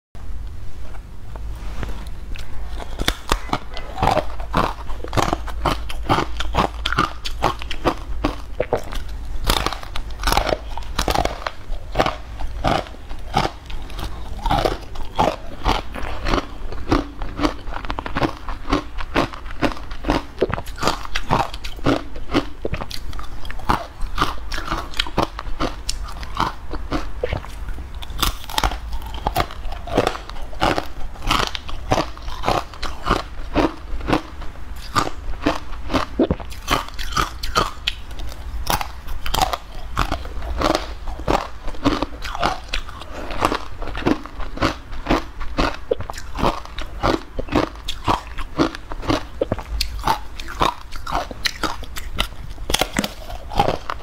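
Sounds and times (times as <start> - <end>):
crunchy food chewing: 0.9 - 54.0.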